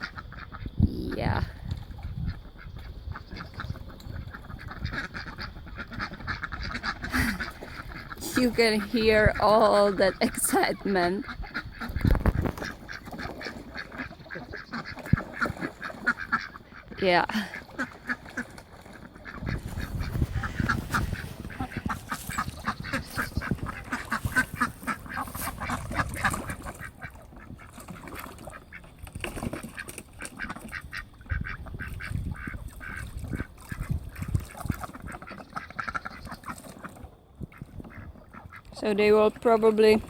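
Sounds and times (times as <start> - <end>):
ducks quacking: 0.0 - 40.0
low splashing: 1.5 - 40.0.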